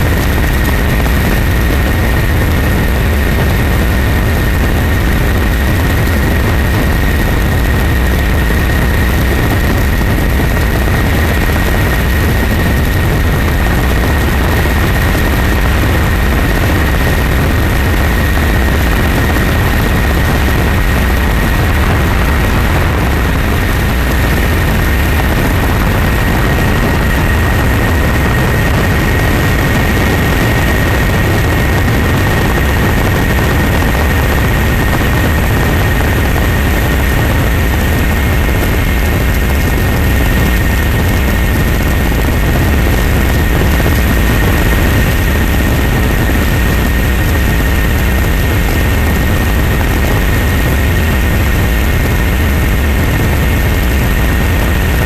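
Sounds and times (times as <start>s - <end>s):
engine drone with high whine: 0.0s - 55.0s.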